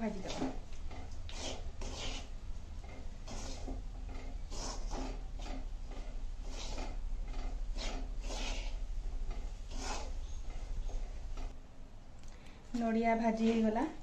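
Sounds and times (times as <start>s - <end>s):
spatula scraping dry mix in pan: 0.0s - 11.4s.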